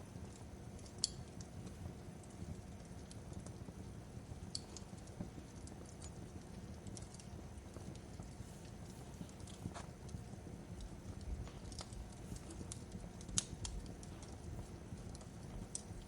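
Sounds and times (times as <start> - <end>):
fire popping and snapping: 0.0 - 16.0
fire rumbling: 0.0 - 16.0.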